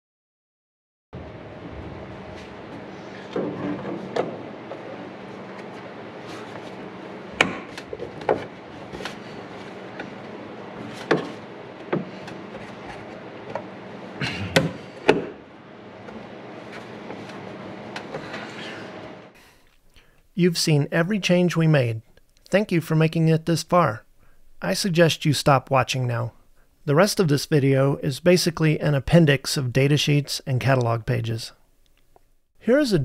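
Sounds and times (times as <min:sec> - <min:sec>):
low steady hum: 0:01.2 - 0:33.0.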